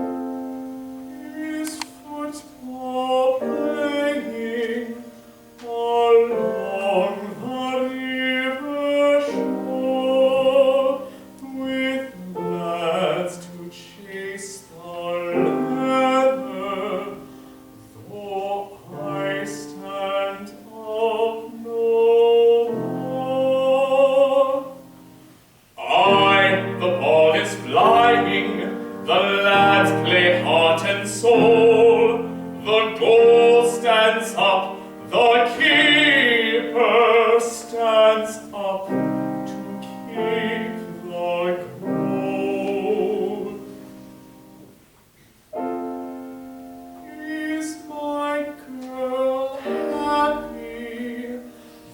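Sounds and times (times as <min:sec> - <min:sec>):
piano accompaniment: 0:00.0 - 0:51.9.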